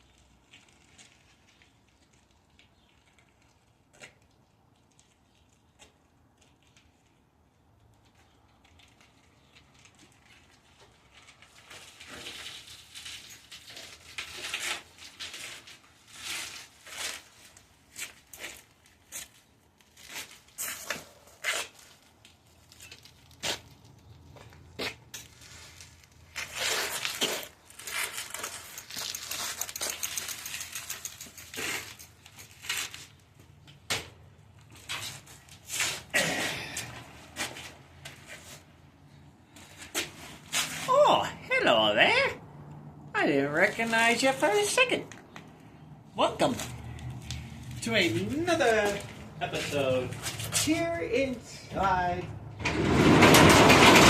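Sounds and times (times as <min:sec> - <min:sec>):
rustling and crinkling: 0:00.0 - 0:41.0, 0:46.4 - 0:51.5.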